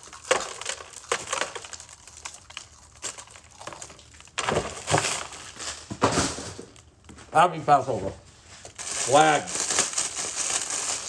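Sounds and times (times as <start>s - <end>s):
crackers crunching: 0.0s - 7.2s, 8.6s - 11.0s
plastic wrapper rustling: 0.0s - 7.2s, 8.4s - 11.0s.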